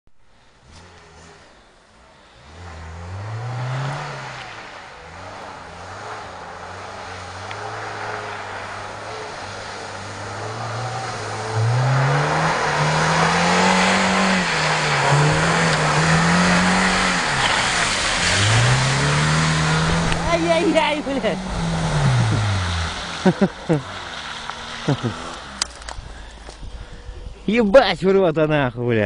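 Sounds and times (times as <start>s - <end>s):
car engine revving: 0.3s - 27.6s.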